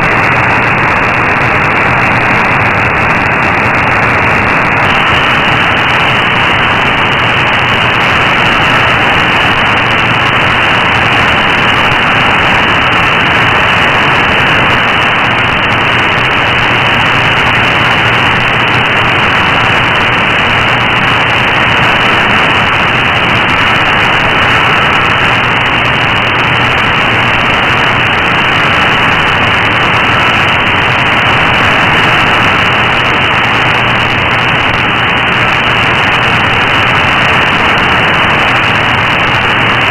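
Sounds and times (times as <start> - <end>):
shortwave static hiss: 0.0 - 39.9.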